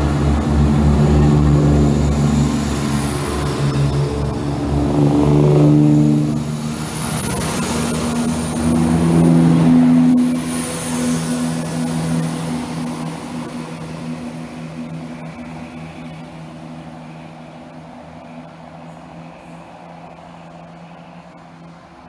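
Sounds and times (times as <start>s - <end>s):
diesel train engine drone: 0.0s - 22.0s.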